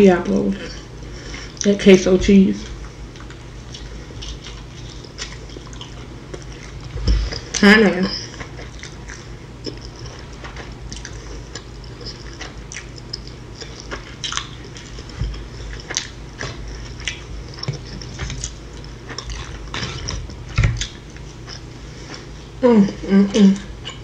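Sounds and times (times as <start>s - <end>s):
crunchy chewing: 2.6s - 22.6s.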